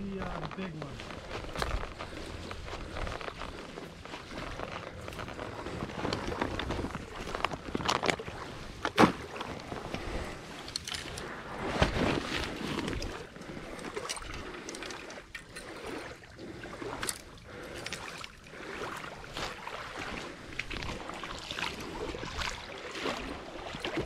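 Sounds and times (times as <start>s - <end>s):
small waves lapping: 0.0s - 24.0s.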